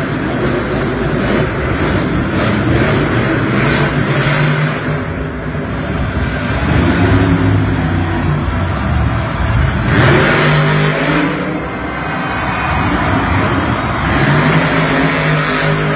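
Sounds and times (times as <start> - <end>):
monster truck engine revving: 0.0 - 15.9.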